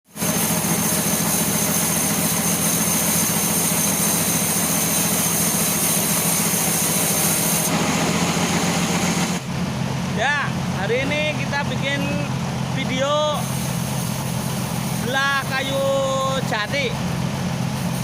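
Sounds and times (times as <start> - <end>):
sawmill saw cutting log: 0.1 - 9.5, 10.1 - 18.0.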